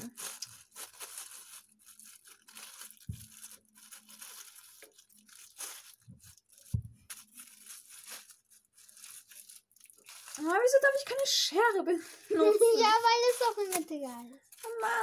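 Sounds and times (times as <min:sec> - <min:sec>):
plastic bag crumpling and tearing: 0:00.0 - 0:15.0.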